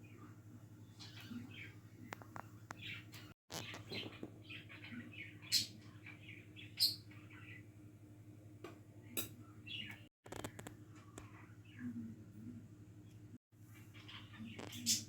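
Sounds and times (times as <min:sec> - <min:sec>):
small birds chirping: 0:00.0 - 0:07.9, 0:09.0 - 0:15.0
faint low hum: 0:00.0 - 0:14.9.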